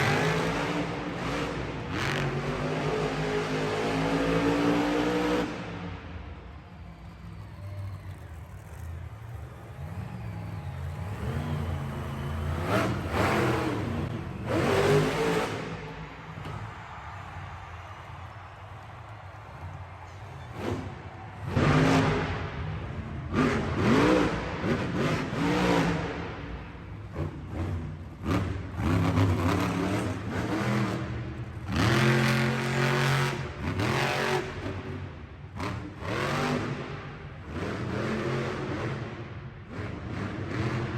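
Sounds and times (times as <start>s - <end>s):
monster truck engine revving: 0.0s - 6.0s, 7.8s - 40.9s.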